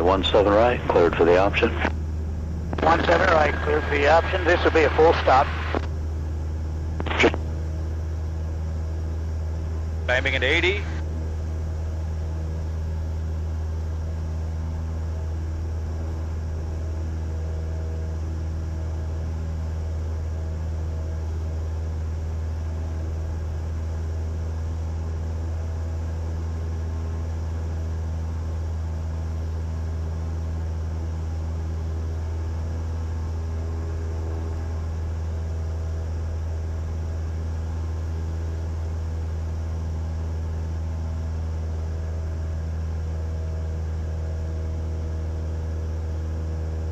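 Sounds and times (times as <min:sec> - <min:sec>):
propeller plane engine drone: 0:00.0 - 0:46.9.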